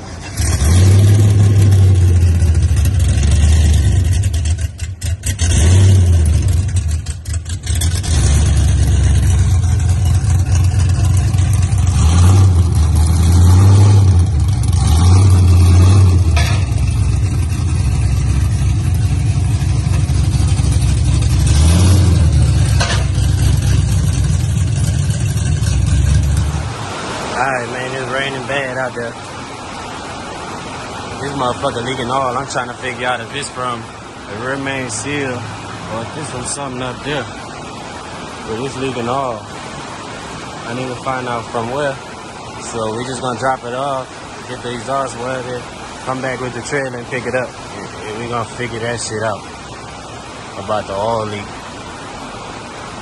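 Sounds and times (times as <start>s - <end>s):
loud car engine rumble: 0.0s - 53.0s.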